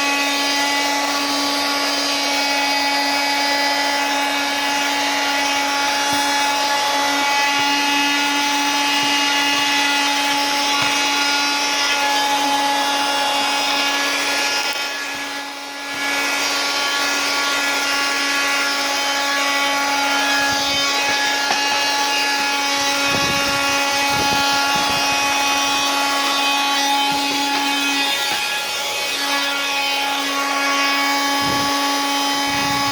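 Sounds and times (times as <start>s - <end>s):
handheld vacuum cleaner whining: 0.0s - 32.9s.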